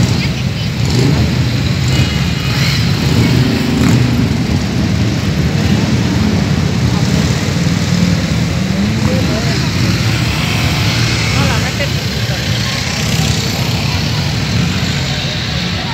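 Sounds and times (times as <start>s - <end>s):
motorcycle engines idling: 0.0s - 15.9s.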